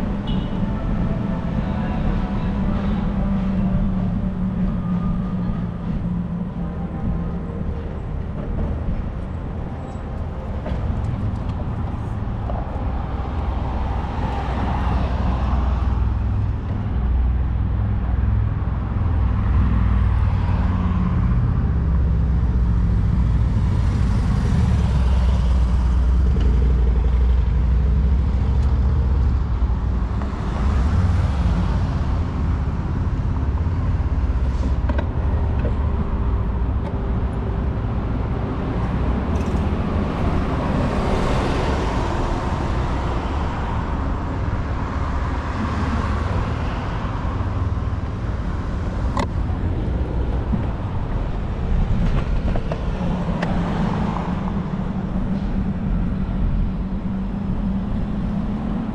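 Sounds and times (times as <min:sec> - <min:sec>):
cars driving past: 0:00.0 - 0:58.9
steady low traffic rumble: 0:00.0 - 0:58.9.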